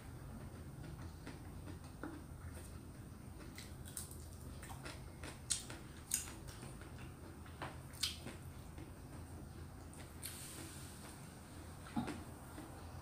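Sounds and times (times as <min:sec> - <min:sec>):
person chewing: 0:00.3 - 0:11.2.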